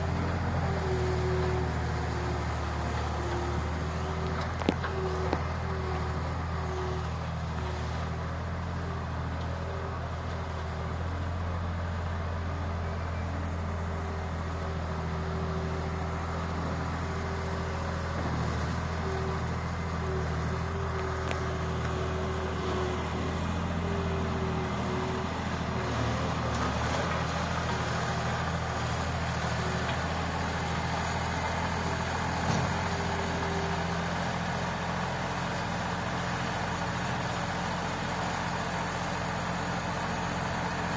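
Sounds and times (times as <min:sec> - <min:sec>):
construction machinery engine: 0:00.0 - 0:40.9.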